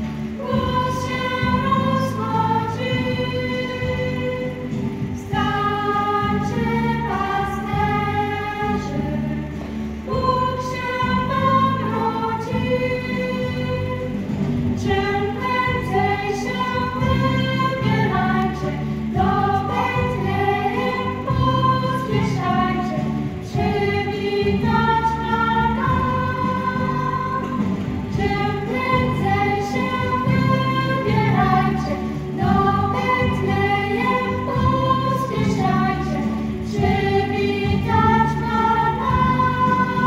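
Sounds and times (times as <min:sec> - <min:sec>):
children's choir singing: 0:00.0 - 0:40.0
low accompaniment: 0:00.0 - 0:40.0.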